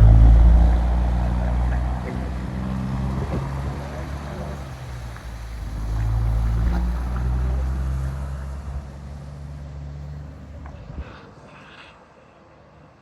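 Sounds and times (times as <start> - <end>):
heavy truck engine passing: 0.0 - 11.5.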